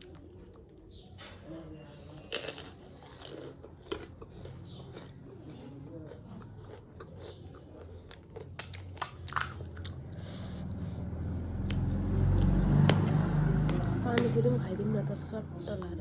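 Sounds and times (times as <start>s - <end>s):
chewing and biting snack: 0.0s - 14.0s.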